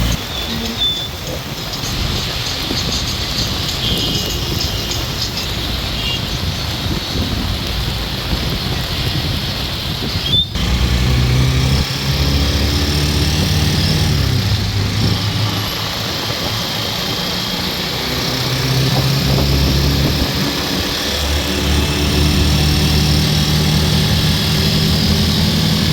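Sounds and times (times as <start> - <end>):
heavy rain falling: 0.0 - 25.9
vehicle engine running: 1.4 - 25.9.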